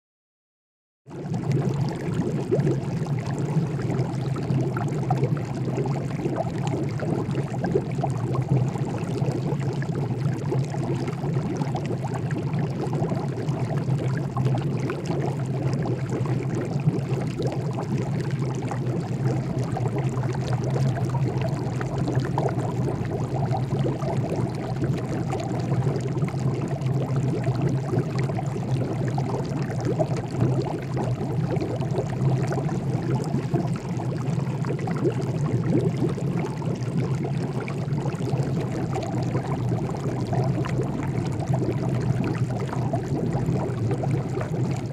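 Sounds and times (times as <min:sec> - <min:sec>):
water boiling: 0:01.2 - 0:44.9.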